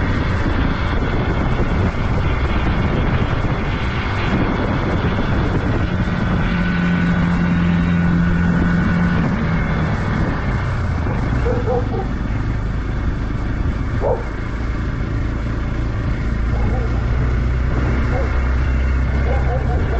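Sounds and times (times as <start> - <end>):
motorcycle engine: 0.0 - 19.9
wind rushing over microphone: 0.0 - 19.9.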